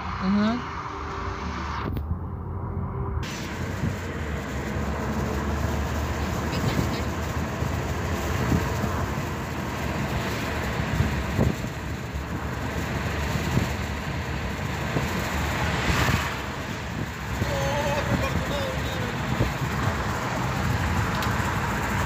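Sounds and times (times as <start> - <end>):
car road and engine noise: 0.0 - 22.0
rushing noise: 0.0 - 22.0.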